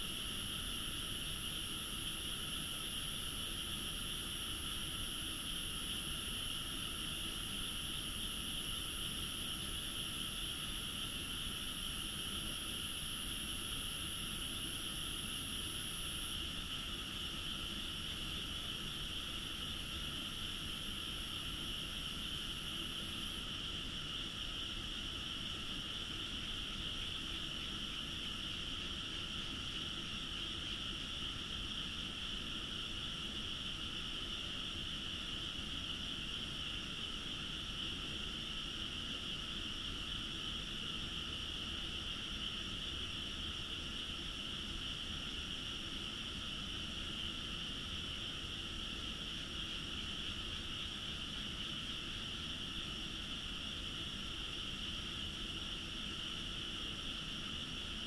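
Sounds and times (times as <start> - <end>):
frogs chorusing: 0.0 - 58.0.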